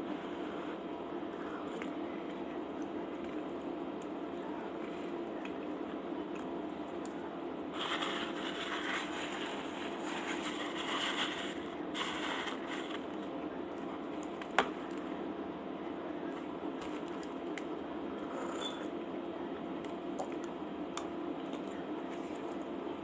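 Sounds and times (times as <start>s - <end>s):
steady low hum: 0.0s - 23.0s
chewing and food handling: 1.3s - 15.1s, 16.3s - 18.6s, 19.7s - 22.7s.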